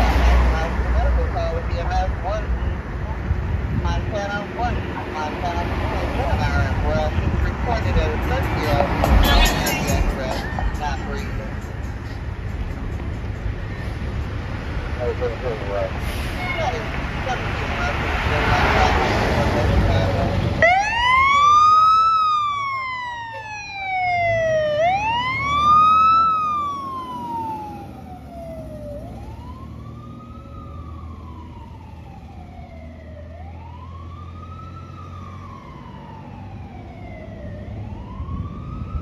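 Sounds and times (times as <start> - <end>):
fire truck siren wailing: 0.0 - 12.2, 14.3 - 39.0.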